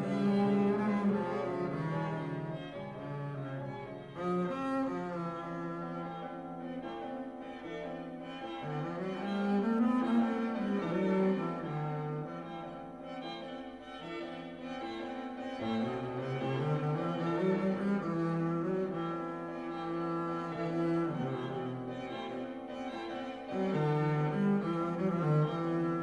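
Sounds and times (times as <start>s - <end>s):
slow bowed cello music: 0.0s - 26.0s.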